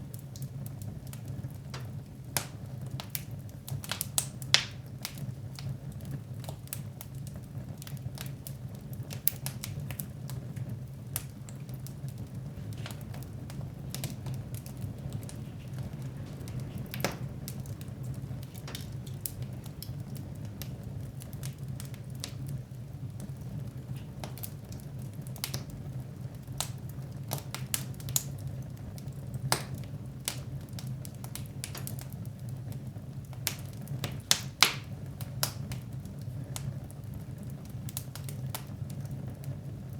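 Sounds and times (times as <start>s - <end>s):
fireplace fire crackling: 0.0s - 39.9s
flames rumbling: 0.0s - 39.9s.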